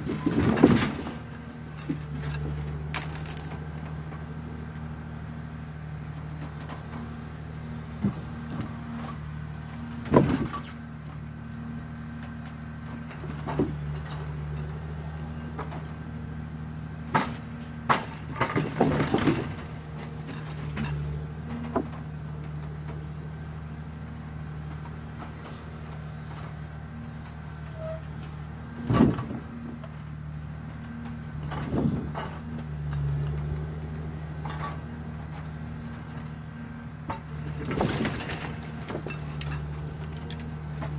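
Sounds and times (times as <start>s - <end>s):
diesel engine running: 0.0s - 40.9s
hydraulic crane loading logs: 0.0s - 40.9s.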